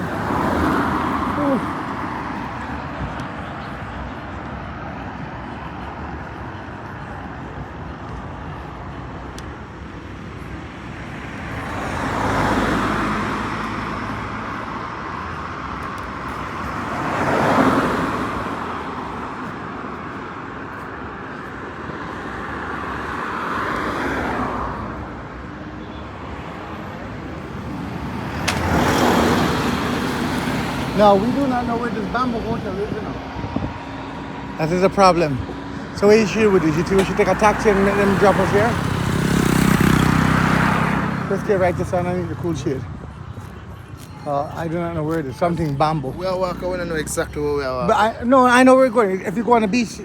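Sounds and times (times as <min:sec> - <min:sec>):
background traffic hum: 0:00.0 - 0:50.0
vehicles passing by: 0:00.0 - 0:50.0.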